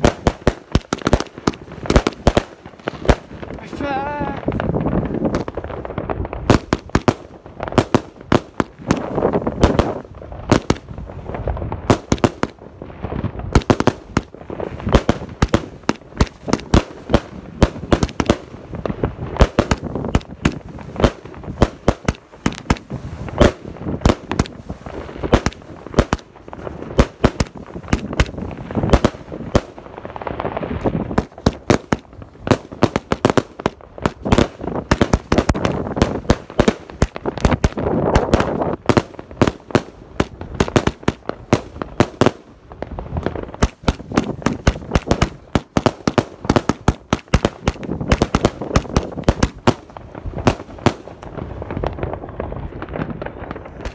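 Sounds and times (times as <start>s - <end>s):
firework bangs: 0.0s - 53.9s.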